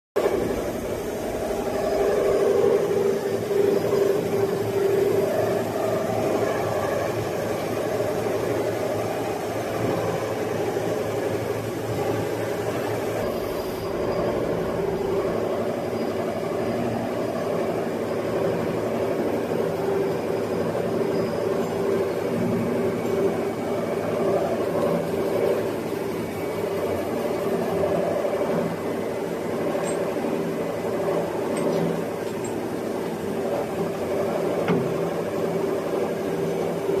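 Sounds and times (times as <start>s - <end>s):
machine tool humming: 0.2s - 37.0s.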